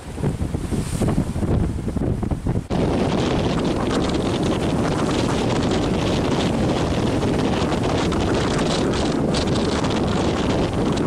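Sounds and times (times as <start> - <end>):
surf breaking against rocks: 0.0 - 11.0
wind buffeting microphone: 0.0 - 11.0.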